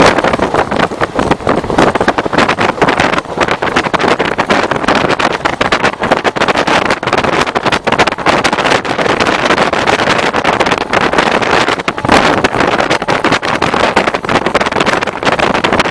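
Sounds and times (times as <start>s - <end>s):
rapid irregular clatter: 0.0s - 15.9s
train running at speed: 0.0s - 15.9s.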